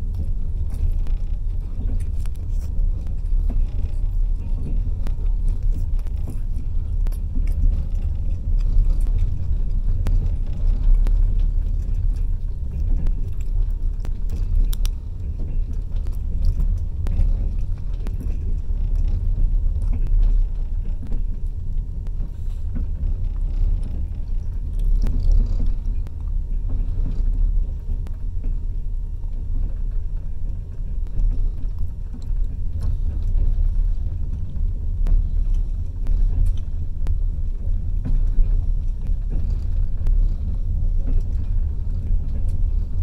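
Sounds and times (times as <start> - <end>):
faint clicks and rattles: 0.0 - 43.0
train wheels rumbling on rails: 0.0 - 43.0.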